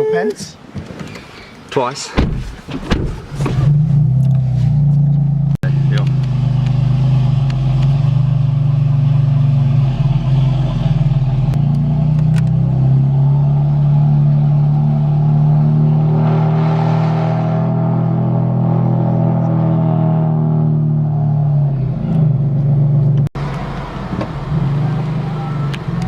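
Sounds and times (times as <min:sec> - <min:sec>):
car engine droning in cabin: 0:03.0 - 0:26.0.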